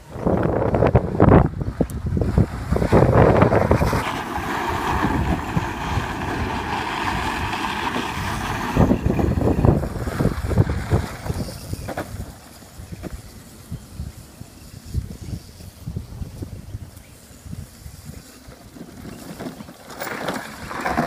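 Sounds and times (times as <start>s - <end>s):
wind on microphone: 0.0s - 19.7s
wheels spinning on gravel: 0.0s - 21.0s.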